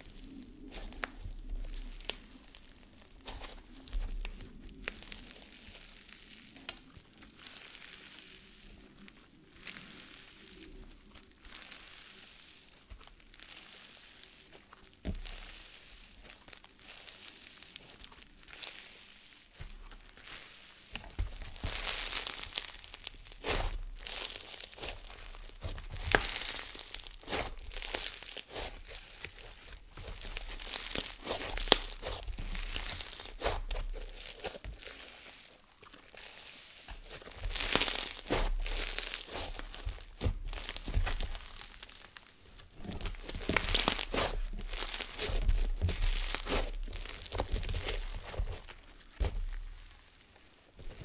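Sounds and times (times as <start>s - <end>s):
slime crackling and popping: 0.0s - 51.0s.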